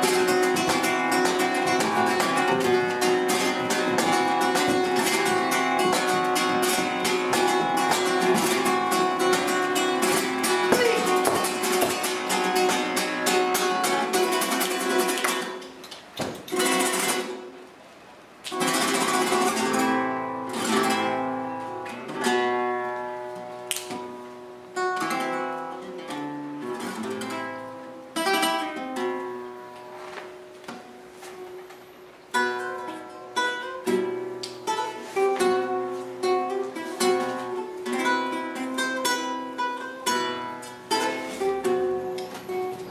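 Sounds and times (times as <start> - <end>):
flamenco guitar: 0.0 - 42.9.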